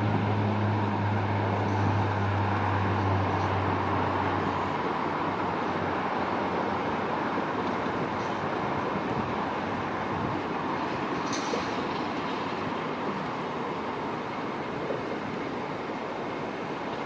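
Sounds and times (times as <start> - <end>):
distant jet engines: 0.0 - 17.0
ground vehicles: 0.0 - 17.0.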